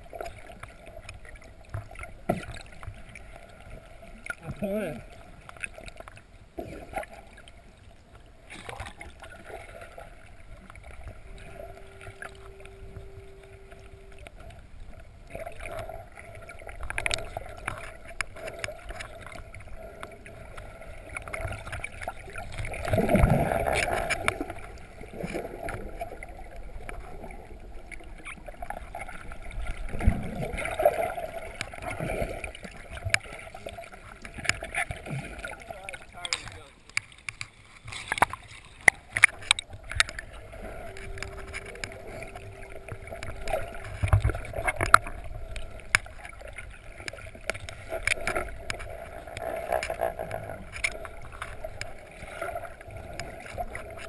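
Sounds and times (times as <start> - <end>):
surges of water movement: 0.0 - 54.0
underwater rushing water: 0.0 - 54.0.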